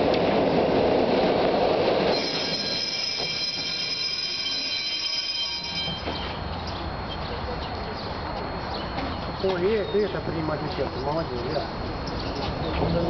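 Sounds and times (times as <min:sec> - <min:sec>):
tram wheels squealing on rails: 0:01.6 - 0:13.0.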